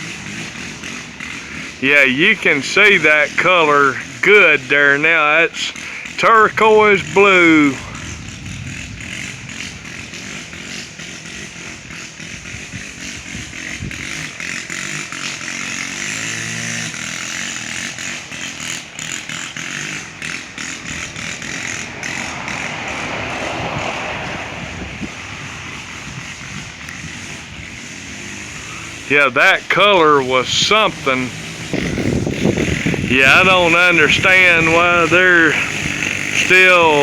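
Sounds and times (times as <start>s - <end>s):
distant small petrol engines: 0.0s - 37.0s
passing vehicle: 0.0s - 37.0s.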